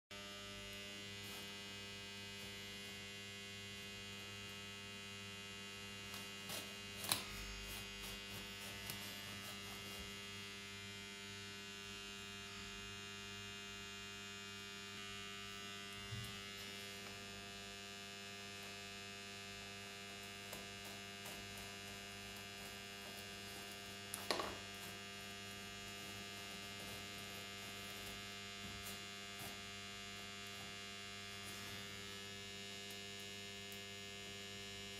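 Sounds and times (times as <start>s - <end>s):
electrical mains hum: 0.1s - 34.9s.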